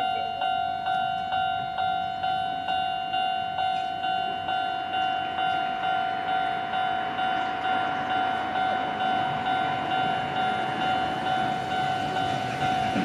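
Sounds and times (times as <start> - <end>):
level crossing electronic bell: 0.0 - 13.0.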